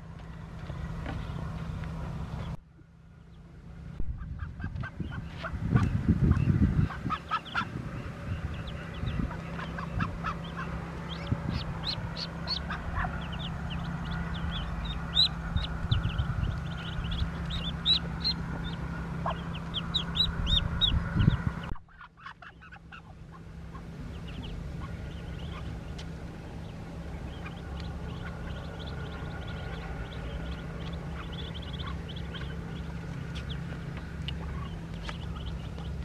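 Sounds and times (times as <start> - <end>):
steady low rumble: 0.0 - 36.0
ducklings peeping: 0.6 - 2.6, 3.2 - 36.0.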